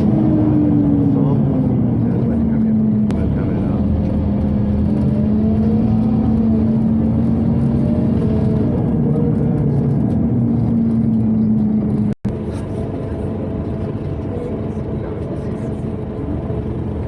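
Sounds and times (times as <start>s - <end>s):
bus engine: 0.0s - 17.0s.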